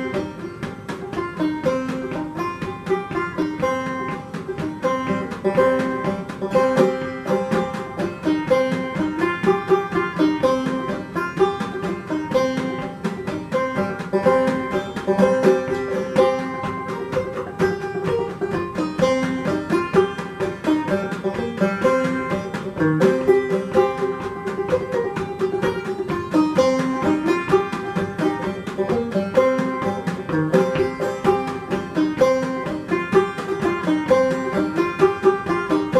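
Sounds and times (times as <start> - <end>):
banjo plucking: 0.0 - 35.9.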